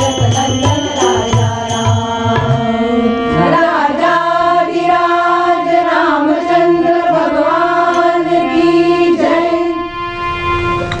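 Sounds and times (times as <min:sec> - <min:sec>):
women singing in unison: 0:00.0 - 0:09.9
harmonium drone: 0:00.0 - 0:11.0.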